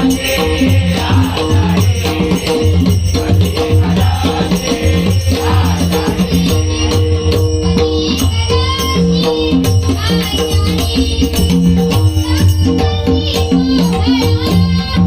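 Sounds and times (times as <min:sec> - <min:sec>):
jingling rattling percussion: 0:00.0 - 0:15.0.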